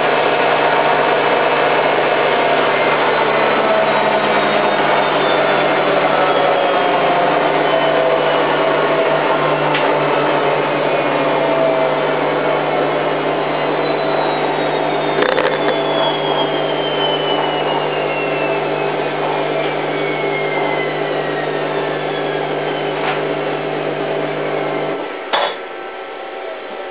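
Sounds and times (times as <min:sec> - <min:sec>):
washing machine drum whine: 0:00.0 - 0:26.9.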